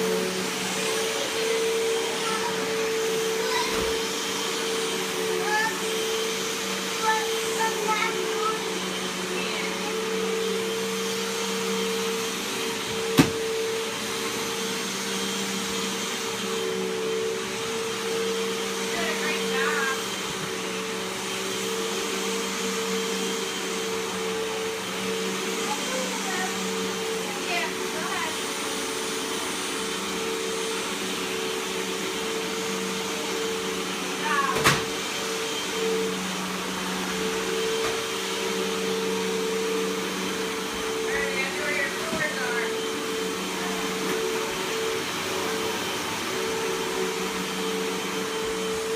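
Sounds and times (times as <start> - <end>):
vacuum cleaner motor humming: 0.0 - 48.9.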